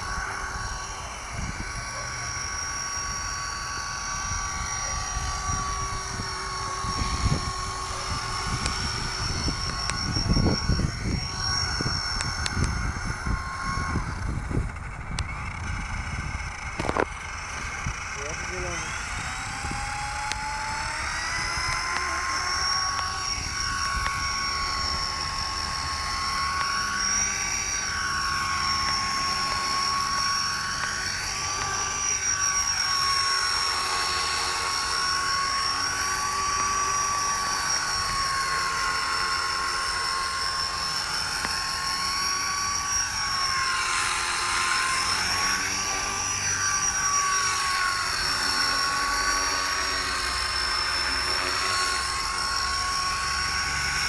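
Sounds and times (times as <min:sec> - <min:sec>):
rc helicopter whine: 0:00.0 - 0:54.0.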